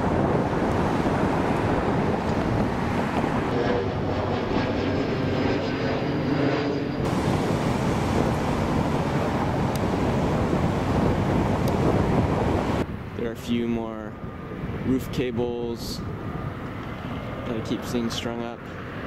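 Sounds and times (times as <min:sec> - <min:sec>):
faint droning engine hum: 0:00.0 - 0:19.0
wind buffeting microphone: 0:00.0 - 0:19.0.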